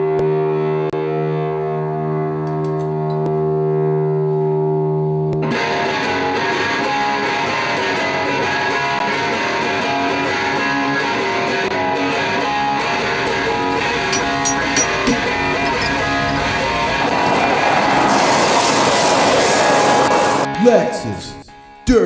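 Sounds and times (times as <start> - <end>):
rock band with guitar: 0.0 - 18.1.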